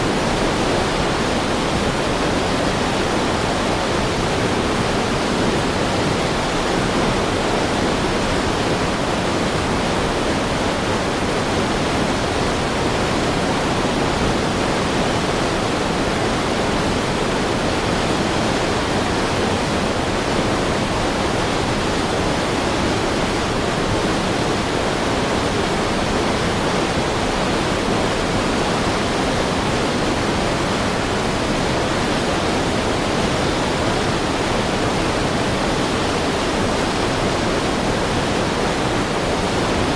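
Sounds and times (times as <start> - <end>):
fast river flowing: 0.0 - 39.9.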